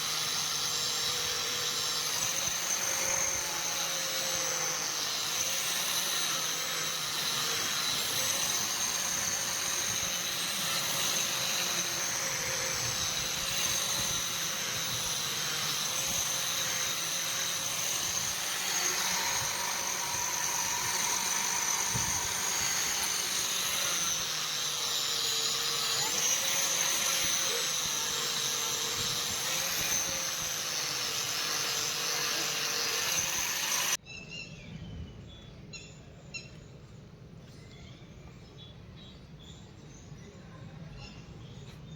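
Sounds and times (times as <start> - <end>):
power tool motor whining: 0.0 - 34.0.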